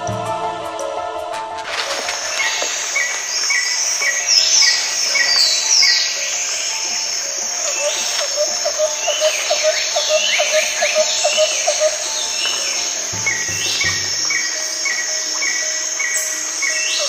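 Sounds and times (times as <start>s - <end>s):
birds calling: 1.7s - 17.0s
high insect drone: 1.7s - 17.0s.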